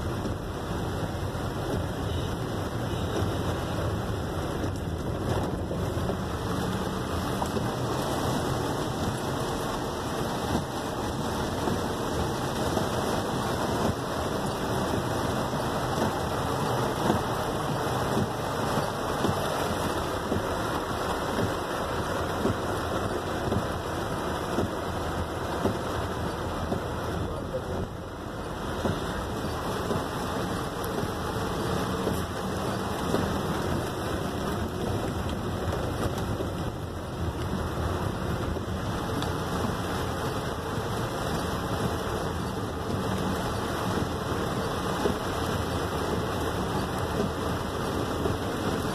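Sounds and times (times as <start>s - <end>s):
heavy rain on car roof: 0.0s - 48.9s
road noise: 0.0s - 48.9s.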